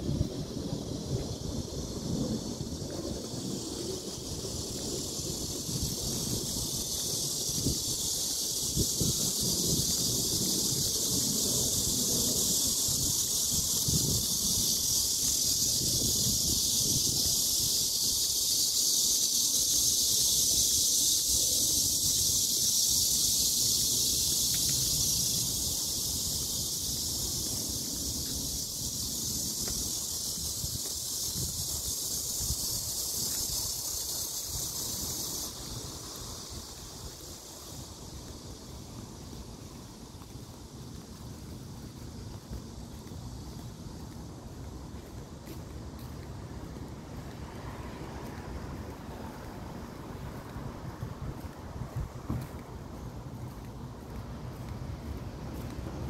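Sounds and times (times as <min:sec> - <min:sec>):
wind buffeting microphone: 0:00.0 - 0:45.4, 0:48.0 - 0:56.0
wind hissing through trees: 0:00.0 - 0:56.0.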